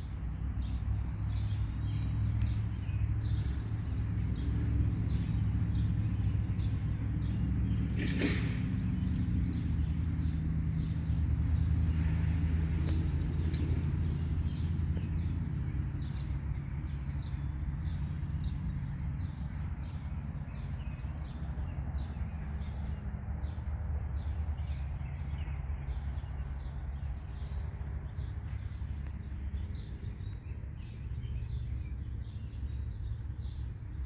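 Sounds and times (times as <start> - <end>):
distant motor hum: 0.0 - 33.8
small birds chirping: 0.0 - 34.0.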